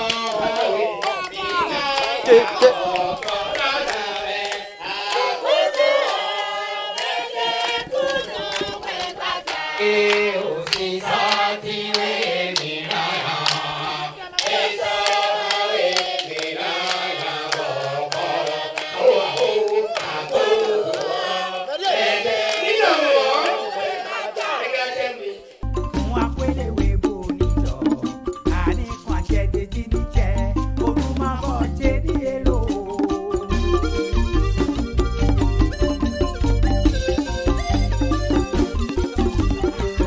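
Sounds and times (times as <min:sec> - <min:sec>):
rhythmic hand-clapping: 0:00.0 - 0:24.5, 0:25.9 - 0:40.0
group of voices singing: 0:00.0 - 0:34.0.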